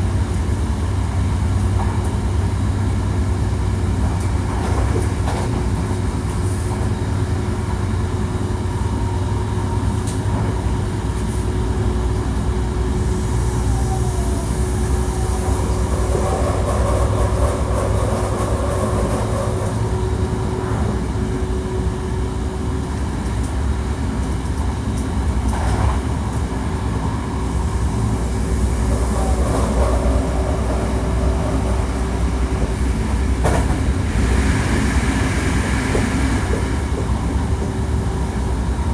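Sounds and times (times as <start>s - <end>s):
electric train whine: 0.0s - 38.9s
train wheels rumbling on rail: 0.0s - 38.9s.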